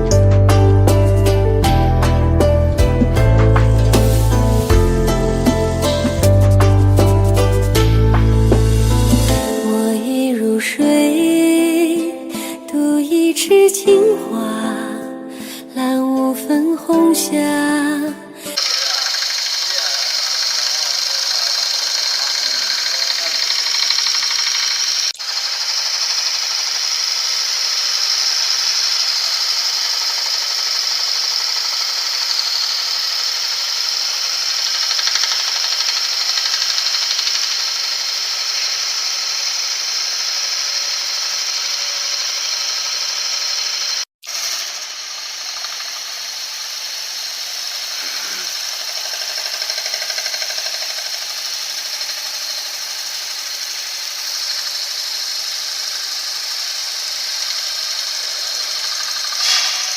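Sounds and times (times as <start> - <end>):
lathe cutter shaving wood: 0.0 - 10.2, 18.4 - 59.9.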